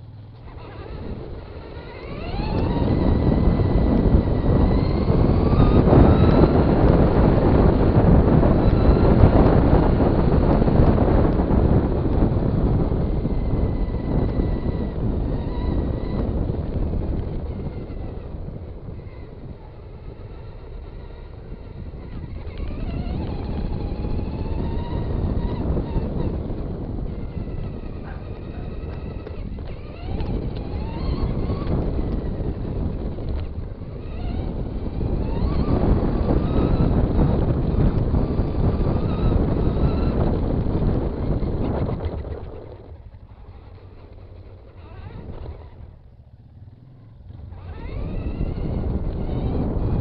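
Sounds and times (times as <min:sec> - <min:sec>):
electric motor whining: 0:00.0 - 0:50.0
wind noise: 0:00.0 - 0:50.0.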